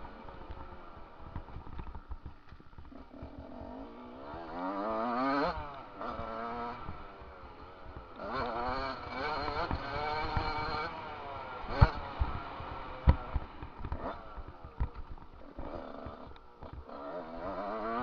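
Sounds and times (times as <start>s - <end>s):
motocross engine revving: 2.9s - 14.8s, 15.4s - 18.0s.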